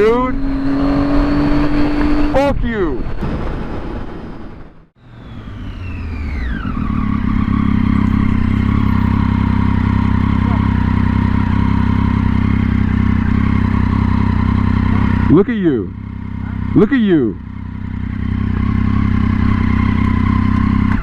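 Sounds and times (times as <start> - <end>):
motorcycle engine running: 3.9 - 21.0.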